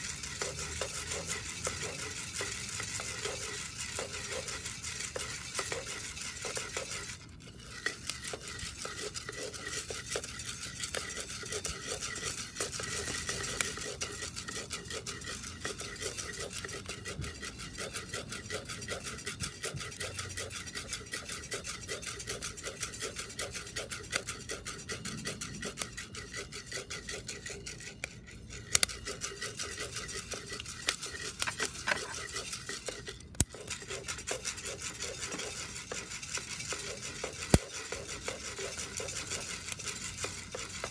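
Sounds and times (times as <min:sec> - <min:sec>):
coffee beans rattling in iron pot: 0:00.0 - 0:40.9.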